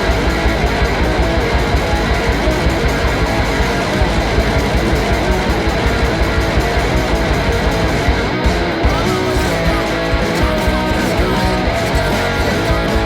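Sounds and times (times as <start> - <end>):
fast rock music: 0.0 - 13.0.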